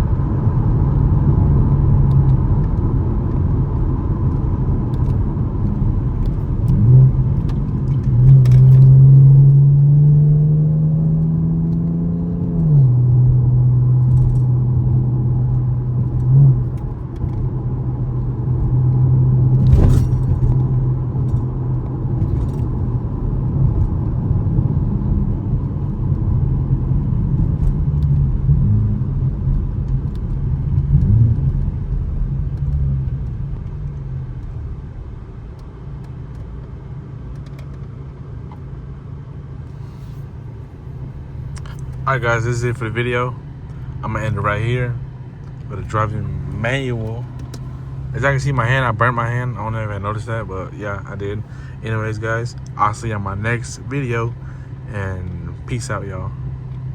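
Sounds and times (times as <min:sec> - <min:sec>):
car engine accelerating: 0:00.0 - 0:36.5, 0:37.1 - 0:56.9.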